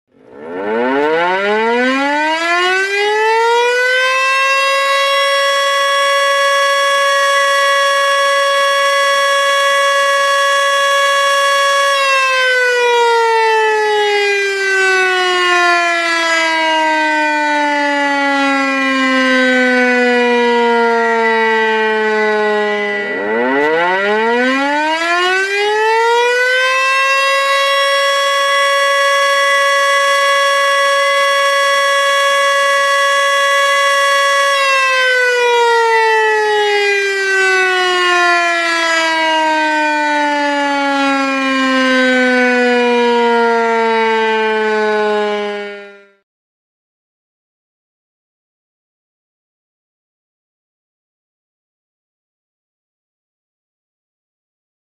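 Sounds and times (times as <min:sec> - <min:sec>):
tornado warning siren wailing: 0:00.1 - 0:46.2.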